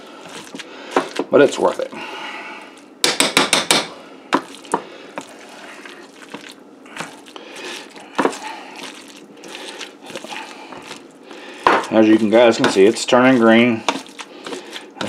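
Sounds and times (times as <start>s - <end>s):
wet squishing: 0.0s - 3.0s, 4.3s - 15.0s.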